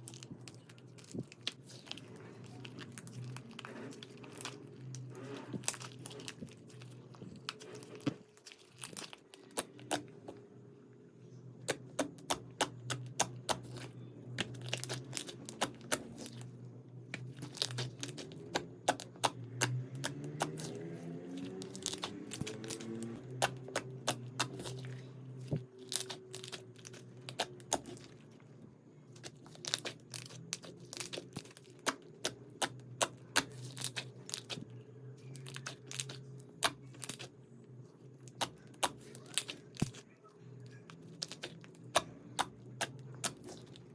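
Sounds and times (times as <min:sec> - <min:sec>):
slime crackling and popping: 0:00.0 - 0:10.2, 0:11.6 - 0:16.5, 0:17.2 - 0:25.0, 0:25.8 - 0:28.2, 0:29.2 - 0:34.6, 0:35.3 - 0:37.4, 0:38.2 - 0:40.0, 0:40.7 - 0:43.9
steady low hum: 0:00.0 - 0:43.9.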